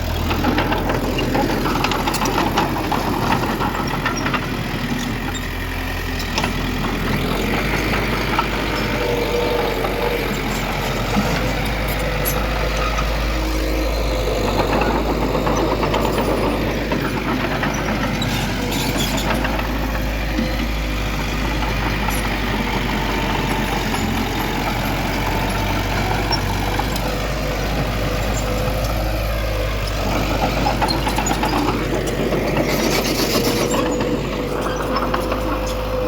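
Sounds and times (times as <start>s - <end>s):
diesel machinery engine running: 0.0s - 36.0s.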